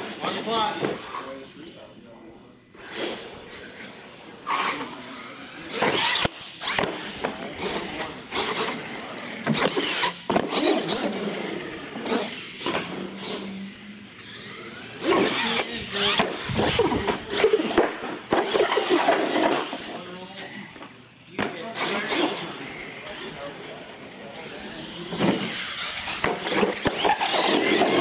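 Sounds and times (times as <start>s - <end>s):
toy truck motor whining: 2.7s - 20.3s, 21.7s - 28.0s.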